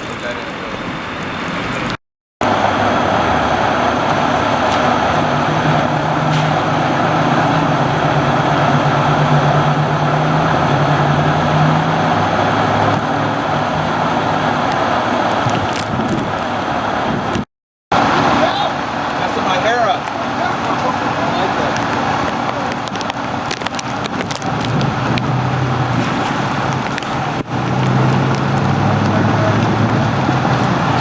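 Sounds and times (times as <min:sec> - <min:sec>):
loud rushing noise: 0:00.0 - 0:31.0
vehicle engine hum: 0:00.0 - 0:31.0.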